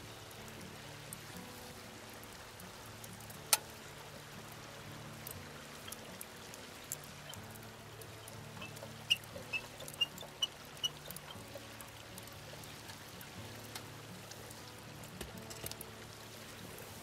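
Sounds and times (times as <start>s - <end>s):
campfire crackling and popping: 0.0s - 17.0s
river water running: 0.0s - 17.0s.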